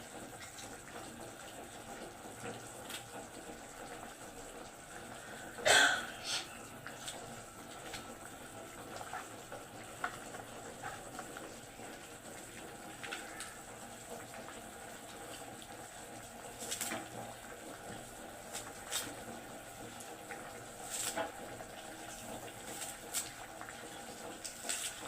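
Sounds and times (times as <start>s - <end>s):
soft watery noise: 0.0s - 25.0s.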